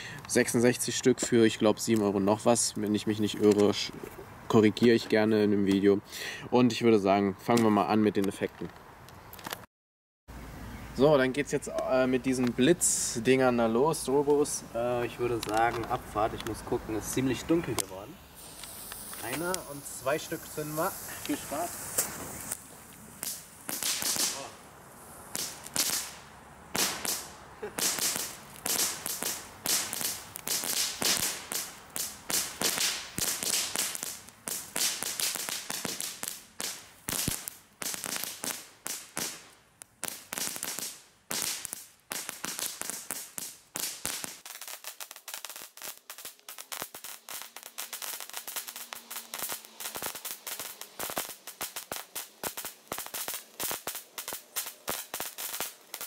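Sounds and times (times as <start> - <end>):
fireworks crackling: 0.0 - 9.7, 11.0 - 56.0.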